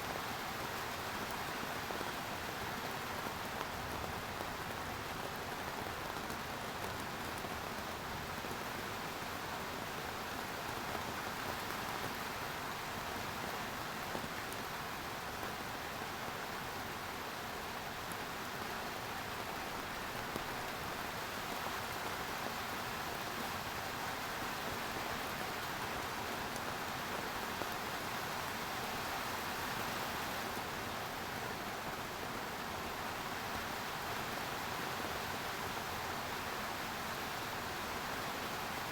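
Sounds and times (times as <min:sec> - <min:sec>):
rain hissing on surfaces: 0:00.0 - 0:38.9.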